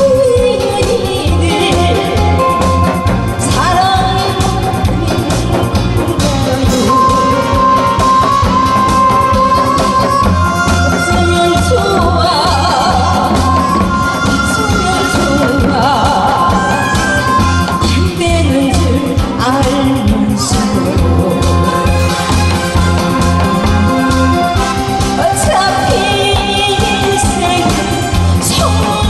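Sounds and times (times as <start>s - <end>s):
backing track with bass beat: 0.0s - 29.0s
person singing: 0.0s - 29.0s.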